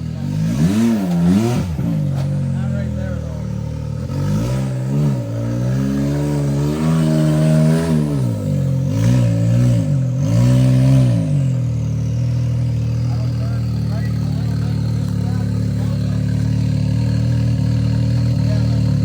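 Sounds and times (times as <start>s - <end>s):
utility vehicle engine revving: 0.0s - 19.0s.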